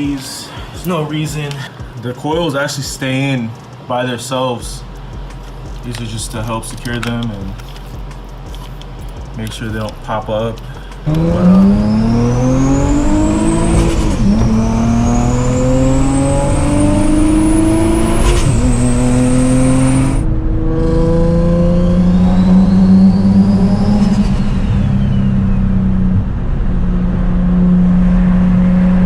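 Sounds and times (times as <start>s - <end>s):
high turbo whine: 0.0s - 29.0s
car engine accelerating hard: 4.8s - 29.0s.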